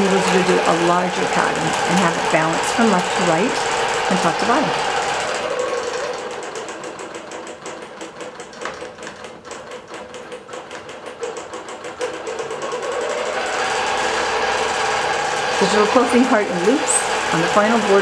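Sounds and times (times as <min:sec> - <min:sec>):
motor hum: 0:00.0 - 0:18.0
quilting machine needle strokes: 0:00.0 - 0:18.0.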